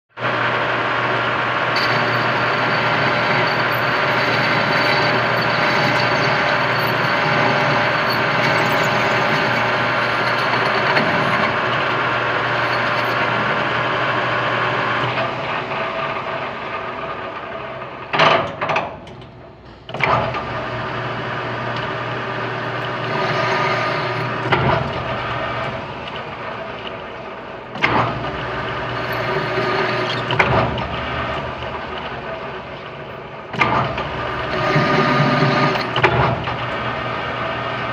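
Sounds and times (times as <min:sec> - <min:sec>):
machinery droning: 0:00.2 - 0:18.0, 0:19.2 - 0:37.9.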